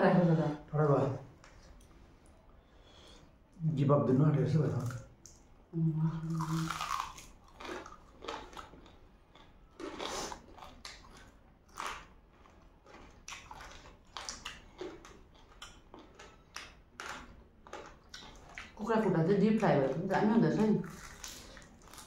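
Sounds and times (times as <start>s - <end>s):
people chewing: 1.4s - 3.3s, 4.7s - 22.0s.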